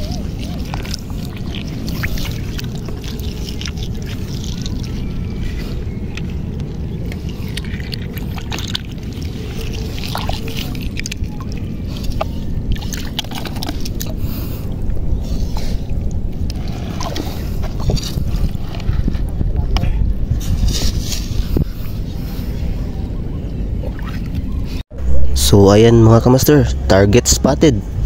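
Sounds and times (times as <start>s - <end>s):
water sloshing and splashing: 0.0s - 25.3s
low rumble: 0.0s - 28.0s.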